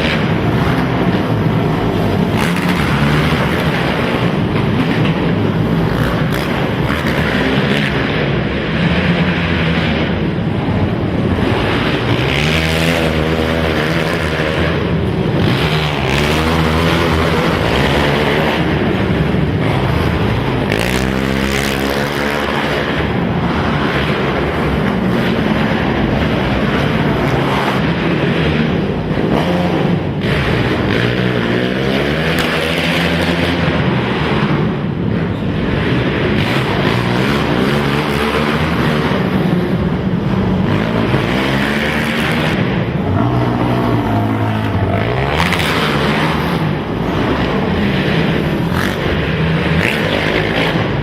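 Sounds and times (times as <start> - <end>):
quad engines revving: 0.0 - 51.0.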